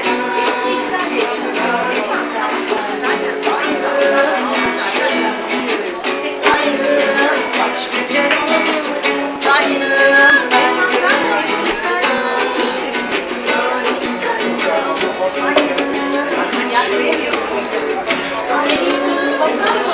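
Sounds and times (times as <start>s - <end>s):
person singing: 0.0s - 19.9s
strummed guitar: 0.0s - 19.9s.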